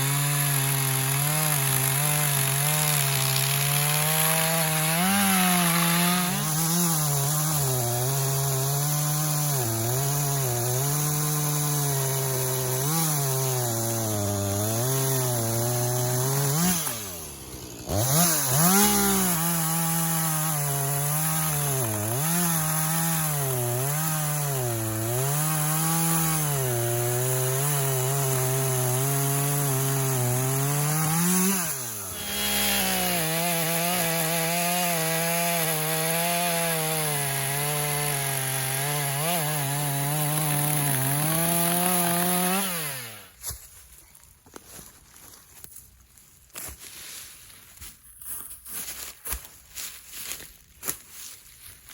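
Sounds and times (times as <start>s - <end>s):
chainsaw cutting wood: 0.0s - 43.6s.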